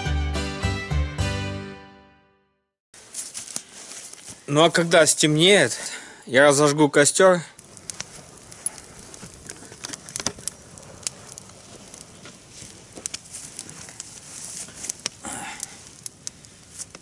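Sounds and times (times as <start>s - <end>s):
campfire crackling and popping: 3.0s - 17.0s.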